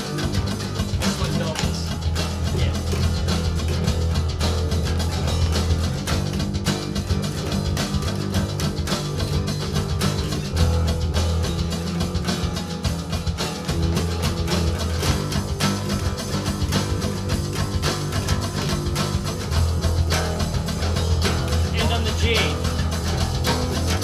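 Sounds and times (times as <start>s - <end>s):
heavy bass line: 0.0s - 24.0s
rock music with guitars: 0.0s - 24.0s
steady drum beat: 0.0s - 24.0s.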